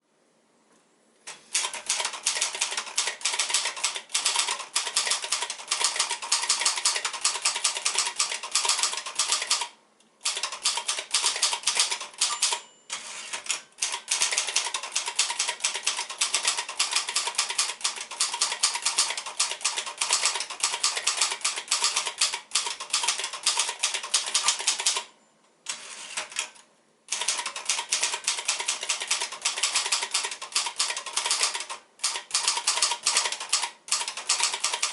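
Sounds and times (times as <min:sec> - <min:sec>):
manual typewriter typing: 0:01.5 - 0:25.1, 0:25.7 - 0:34.9.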